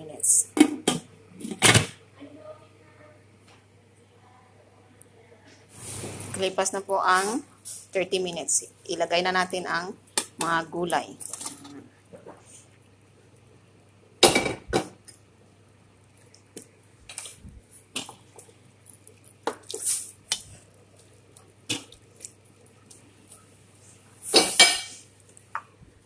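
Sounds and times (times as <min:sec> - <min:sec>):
broth simmering: 0:04.1 - 0:26.0.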